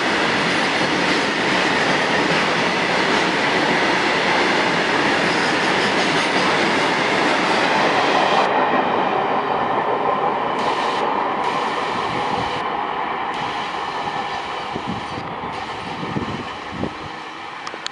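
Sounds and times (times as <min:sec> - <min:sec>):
freight train wheels rumbling on rails: 0:00.0 - 0:17.9.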